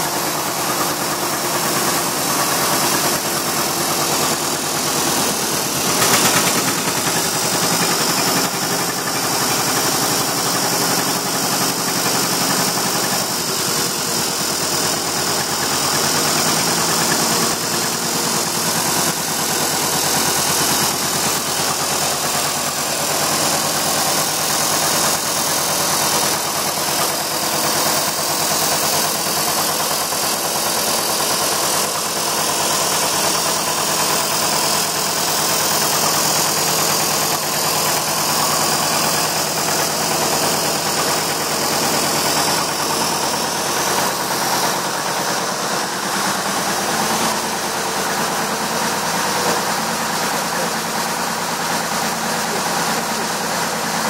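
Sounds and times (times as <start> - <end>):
bulldozer engine running: 0.0 - 54.0.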